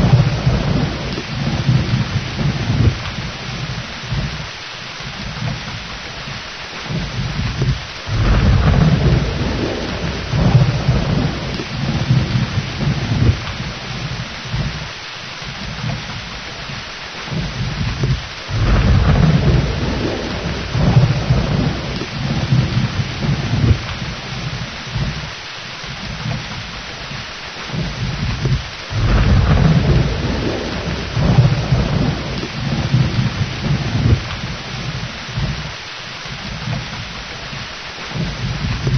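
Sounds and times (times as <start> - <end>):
rolling thunder rumbles: 0.0 - 38.9
steady rain: 0.0 - 38.9.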